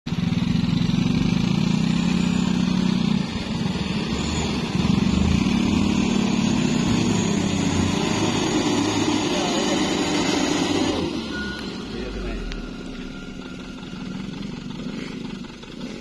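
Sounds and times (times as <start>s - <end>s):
truck engine labouring: 0.1s - 16.0s.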